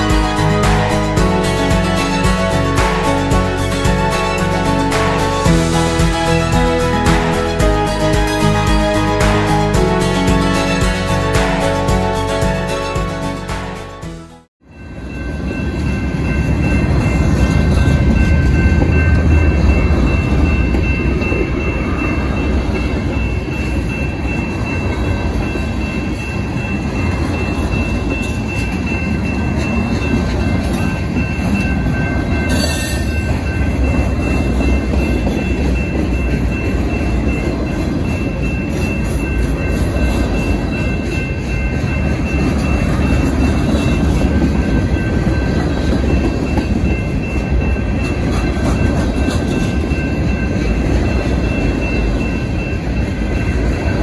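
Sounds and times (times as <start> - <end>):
crossing warning bell ringing: 0.0 - 54.0
freight train wheels rumbling on rails: 0.0 - 54.0.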